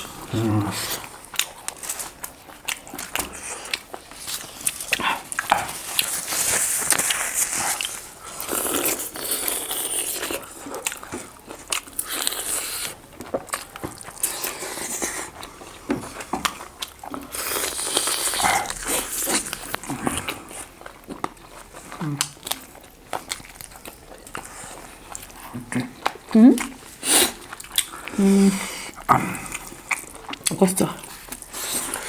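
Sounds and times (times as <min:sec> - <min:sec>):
biting and chewing meat: 0:00.0 - 0:32.0.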